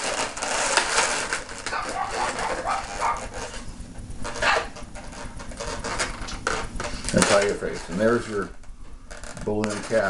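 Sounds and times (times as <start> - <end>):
balloon rubbing and squeaking: 0.0 - 10.0.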